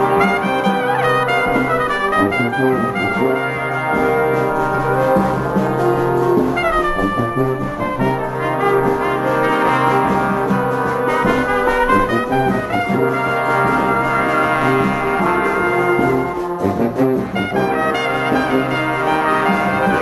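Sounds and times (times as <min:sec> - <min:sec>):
saxophones: 0:00.0 - 0:20.0
trombones: 0:00.0 - 0:20.0
trumpets: 0:00.0 - 0:20.0.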